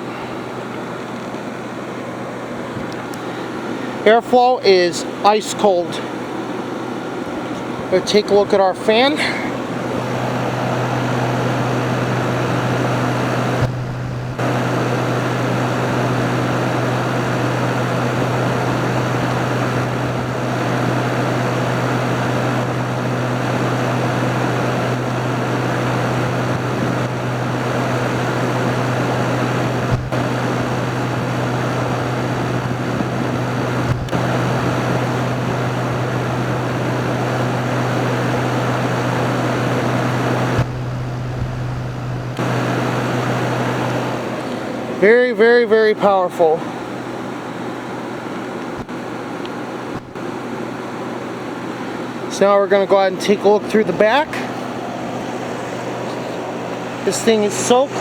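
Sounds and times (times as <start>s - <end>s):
air conditioner running: 0.0s - 58.0s.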